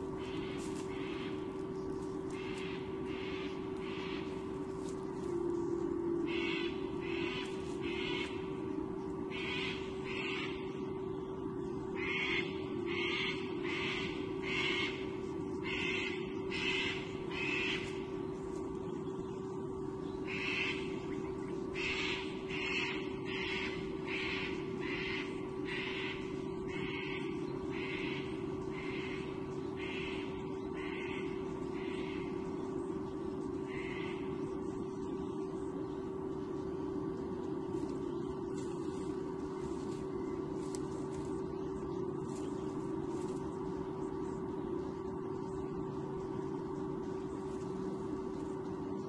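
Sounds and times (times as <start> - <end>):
steady hum: 0.0 - 49.0.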